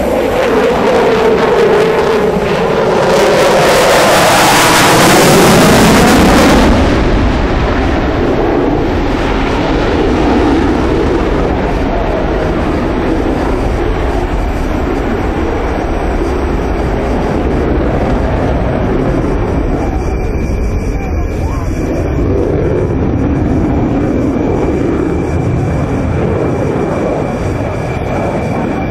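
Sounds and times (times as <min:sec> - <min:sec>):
jet engines passing loudly: 0:00.0 - 0:28.9
jet rumble: 0:00.0 - 0:28.9.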